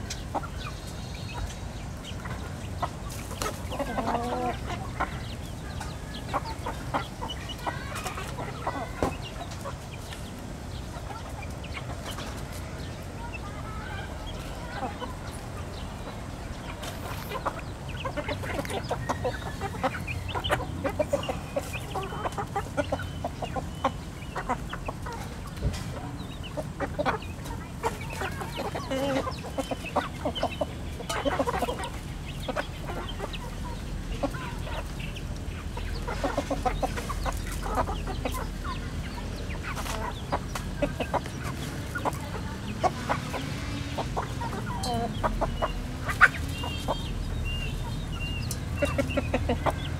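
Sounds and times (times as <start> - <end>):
beaks pecking grain: 0.0 - 49.9
chickens clucking softly: 0.0 - 49.9.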